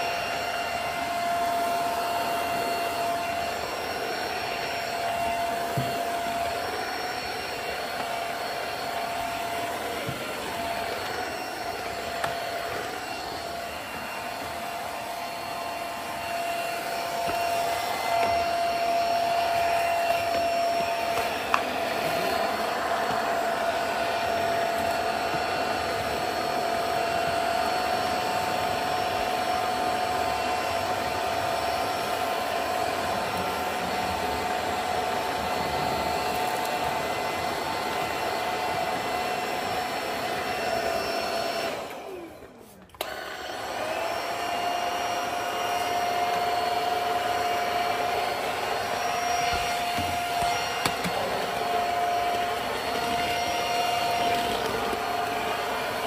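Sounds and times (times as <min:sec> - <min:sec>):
stick vacuum whining: 0:00.0 - 0:56.0.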